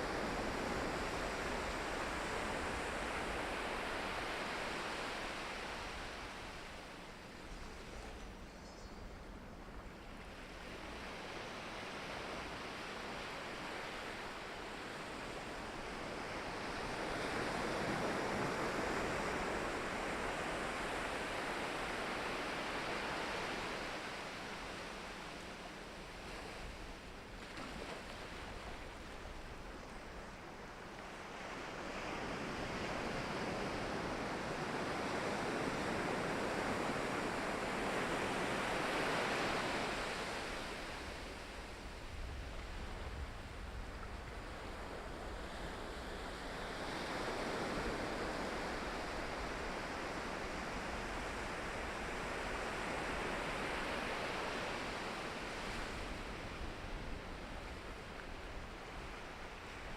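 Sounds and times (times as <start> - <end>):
ocean waves breaking on shore: 0.0 - 8.3, 9.3 - 59.9.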